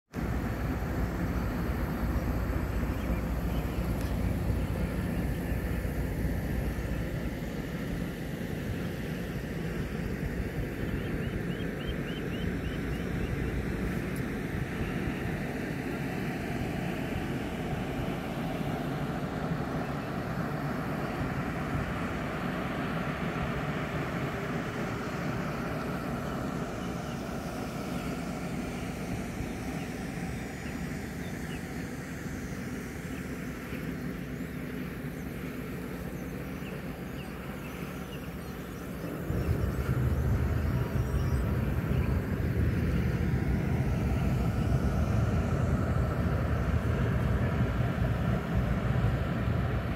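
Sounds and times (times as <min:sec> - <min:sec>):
ferry engines droning: 0:00.1 - 0:49.9
wind rumbling on microphone: 0:00.2 - 0:49.9.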